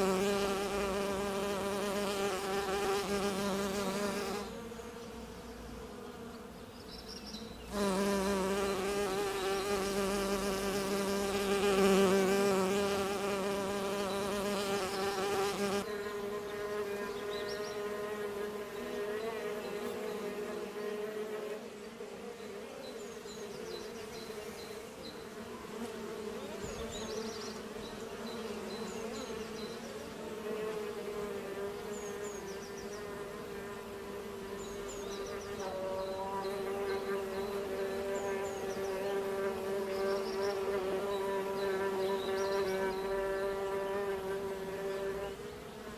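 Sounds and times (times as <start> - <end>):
bees buzzing: 0.0 - 45.9.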